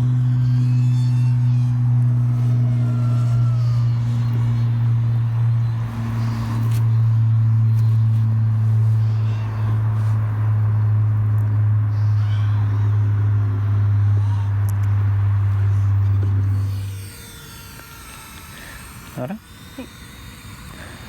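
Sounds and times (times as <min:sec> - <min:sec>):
drone motors humming: 0:00.0 - 0:21.0.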